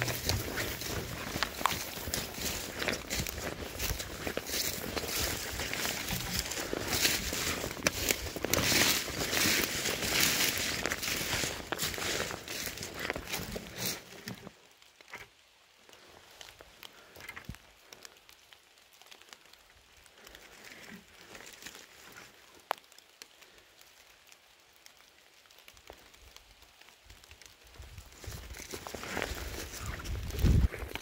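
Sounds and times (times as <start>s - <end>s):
ticks and crackles of leaves: 0.0s - 31.0s.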